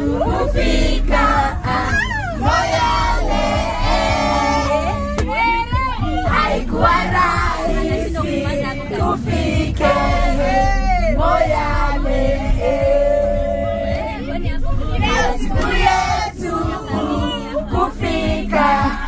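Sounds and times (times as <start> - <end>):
bus rumbling: 0.0 - 19.0
group singing and shouting: 0.0 - 19.0.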